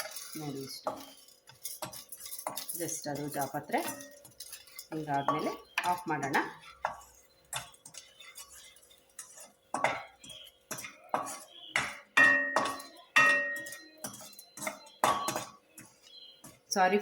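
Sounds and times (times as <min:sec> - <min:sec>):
metal spoon scraping metal pan: 0:00.0 - 0:16.6.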